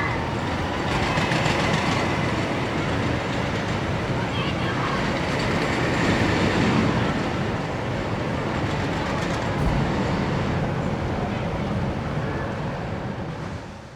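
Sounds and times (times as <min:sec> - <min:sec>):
roller coaster wheels rumbling on rail: 0:00.0 - 0:13.9.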